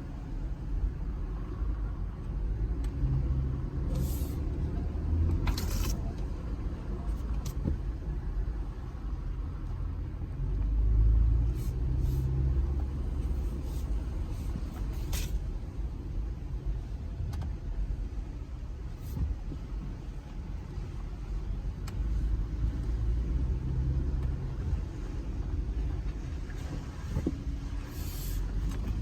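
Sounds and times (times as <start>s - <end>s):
vehicle engine low rumble: 0.0s - 29.0s.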